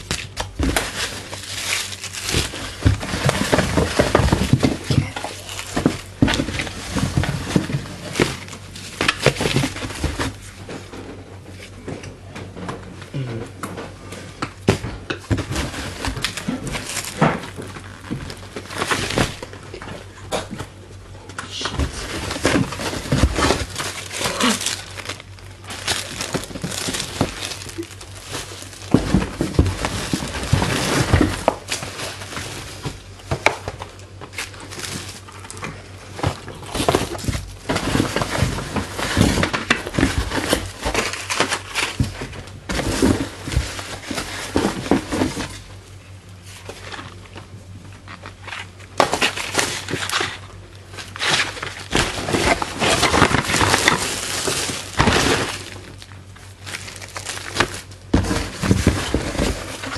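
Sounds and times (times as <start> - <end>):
packaging crinkling and rustling: 0.0 - 13.0, 13.8 - 59.9
items knocking and clattering: 0.0 - 45.8, 46.6 - 59.9.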